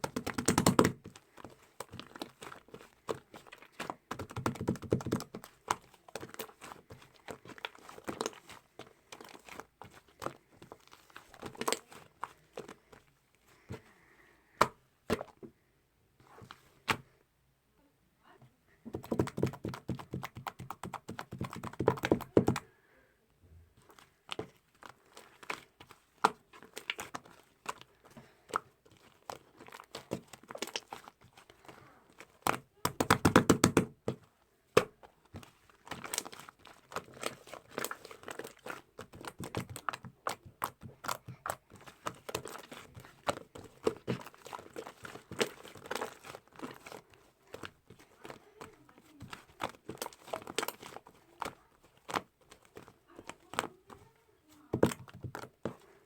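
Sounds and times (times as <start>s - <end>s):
small objects clicking and tapping: 0.0s - 13.0s, 23.8s - 55.9s.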